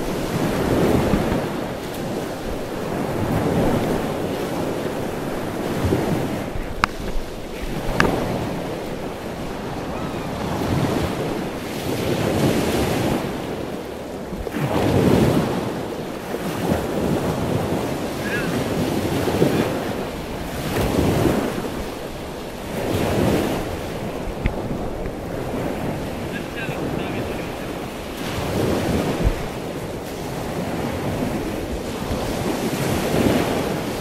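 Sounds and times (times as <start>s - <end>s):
surf washing over rocks: 0.0s - 34.0s
wind buffeting microphone: 0.0s - 34.0s.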